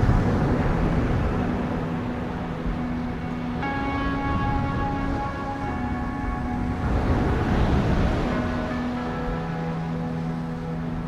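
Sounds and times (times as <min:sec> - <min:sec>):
soft held music tones: 0:00.0 - 0:11.0.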